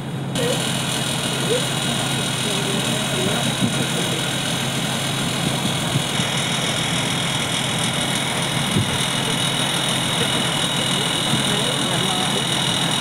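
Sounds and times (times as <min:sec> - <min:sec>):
truck engines idling: 0:00.0 - 0:13.0.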